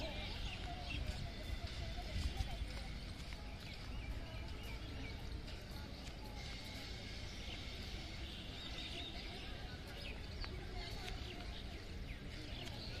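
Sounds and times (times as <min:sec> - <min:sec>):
birds chirping: 0:00.0 - 0:13.0
faint distant voices: 0:00.0 - 0:13.0.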